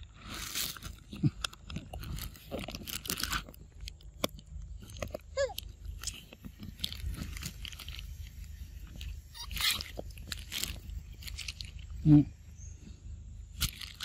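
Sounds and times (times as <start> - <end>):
rustling and crackling: 0.0 - 14.0.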